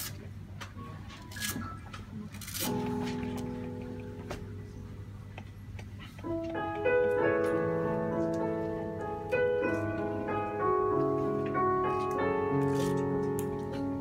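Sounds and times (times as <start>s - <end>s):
piano playing slow chords: 2.6s - 14.0s.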